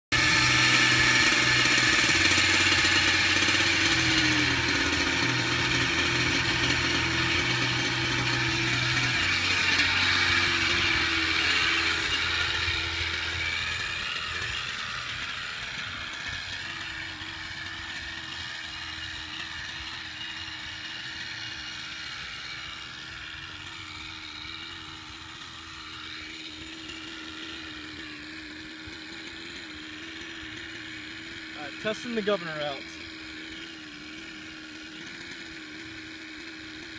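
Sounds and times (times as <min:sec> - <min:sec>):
model helicopter engine idling: 0:00.1 - 0:36.9.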